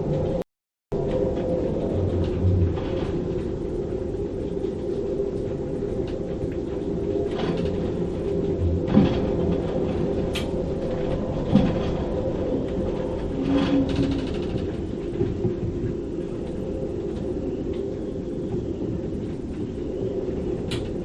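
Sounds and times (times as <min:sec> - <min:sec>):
storm wind in rigging: 0:00.0 - 0:21.0.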